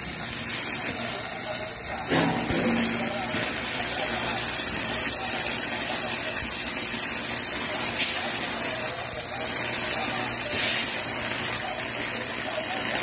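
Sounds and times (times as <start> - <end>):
welding arc crackle and hiss: 0.0 - 13.0.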